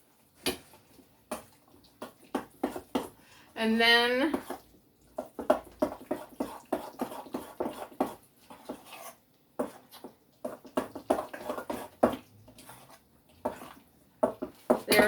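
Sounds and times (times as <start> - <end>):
spoon stirring thick mixture: 0.0 - 15.0.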